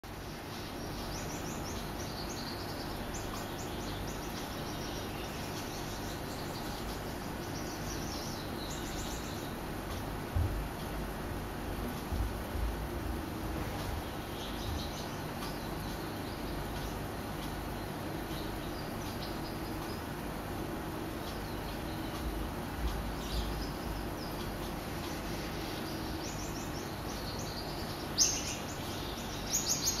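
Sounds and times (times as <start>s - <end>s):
aquarium pump hum and hiss: 0.0s - 30.0s.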